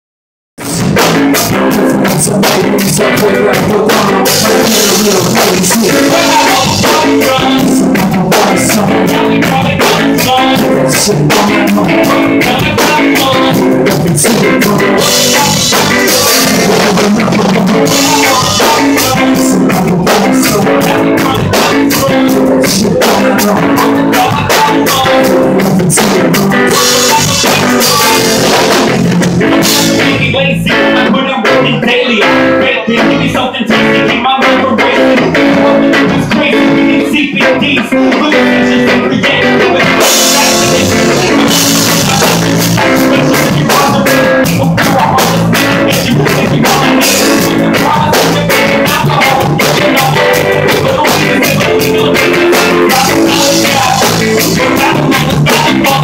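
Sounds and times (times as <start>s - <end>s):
live band playing: 0.6s - 56.0s.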